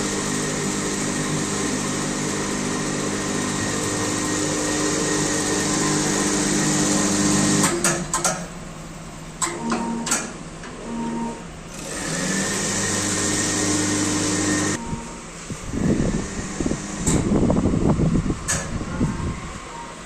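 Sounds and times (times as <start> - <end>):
machine motor whine and hiss: 0.0 - 7.9, 9.5 - 18.1.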